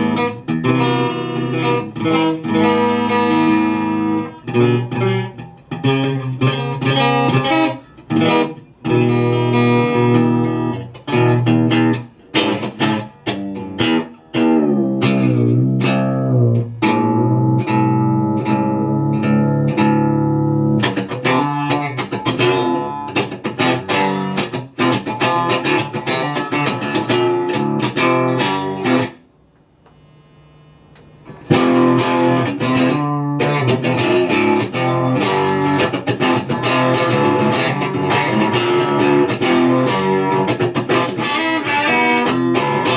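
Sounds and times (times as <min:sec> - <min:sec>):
electric guitar chords and riffs: 0:00.0 - 0:29.4, 0:31.0 - 0:42.9.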